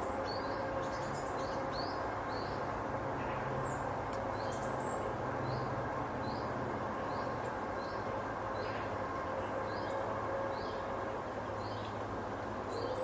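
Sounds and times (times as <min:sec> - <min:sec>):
distant tractor drone: 0:00.0 - 0:13.0
light breeze in trees: 0:00.0 - 0:13.0.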